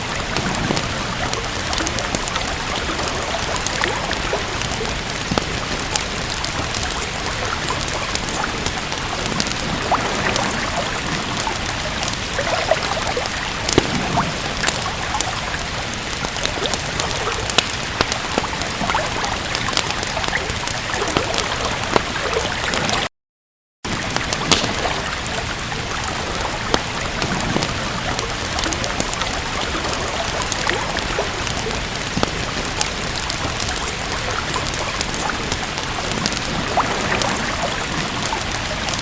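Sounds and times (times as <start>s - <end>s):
steady rain: 0.0s - 23.1s, 23.9s - 39.0s
wood fire crackling: 0.0s - 23.1s, 23.9s - 39.0s.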